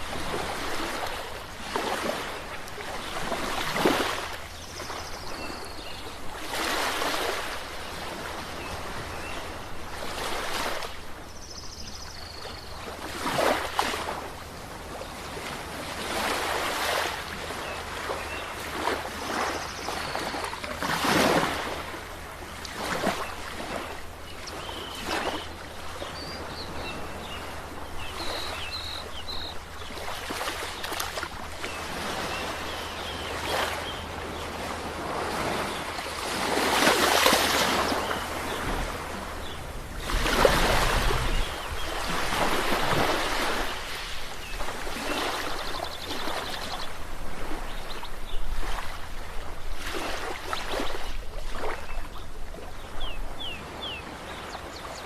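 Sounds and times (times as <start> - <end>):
sea waves breaking: 0.0 - 11.3, 12.8 - 53.0.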